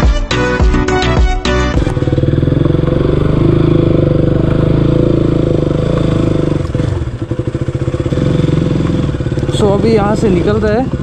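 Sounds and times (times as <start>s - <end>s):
motorcycle engine running: 1.7s - 11.0s.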